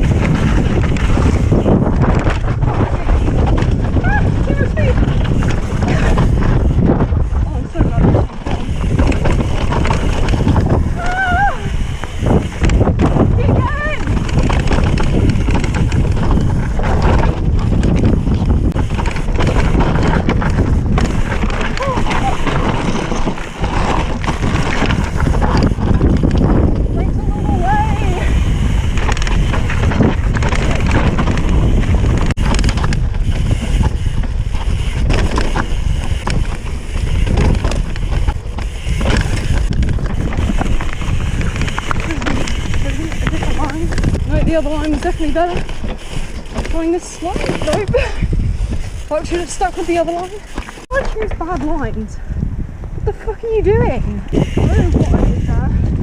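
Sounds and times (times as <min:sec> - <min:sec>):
tyres rolling over loose stones: 0:00.0 - 0:52.0
bike rattling: 0:00.0 - 0:56.0
wind buffeting microphone: 0:00.0 - 0:56.0.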